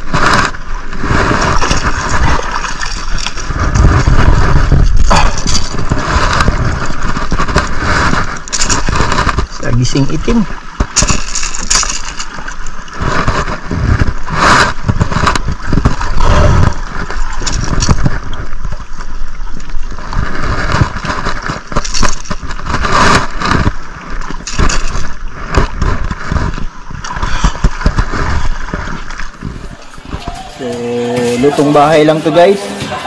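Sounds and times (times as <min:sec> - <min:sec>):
wind gusting on microphone: 0:00.0 - 0:11.1, 0:11.7 - 0:30.6
knocks and scrapes handling fish: 0:00.0 - 0:33.0.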